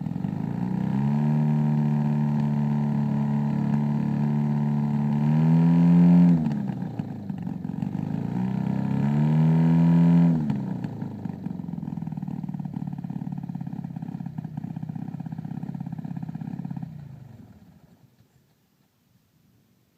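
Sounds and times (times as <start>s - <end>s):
engine revving and idling: 0.0s - 18.0s.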